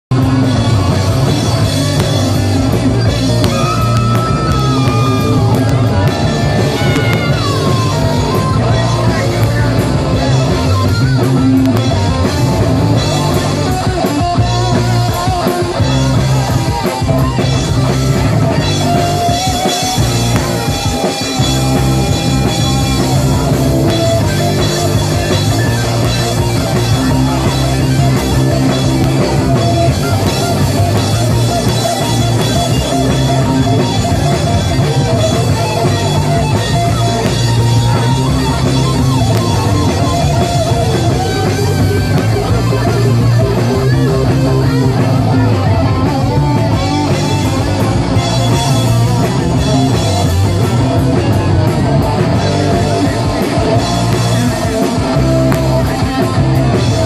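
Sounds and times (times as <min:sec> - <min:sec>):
drums: 0:00.0 - 0:57.0
electric guitar melody: 0:00.1 - 0:57.0
live rock band playing: 0:00.1 - 0:57.0.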